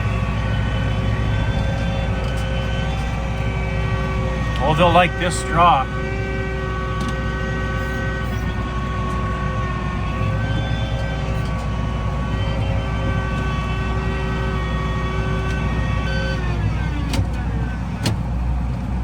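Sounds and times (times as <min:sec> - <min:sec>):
machine whine: 0:00.0 - 0:18.4
tractor engine rumbling: 0:00.0 - 0:19.0.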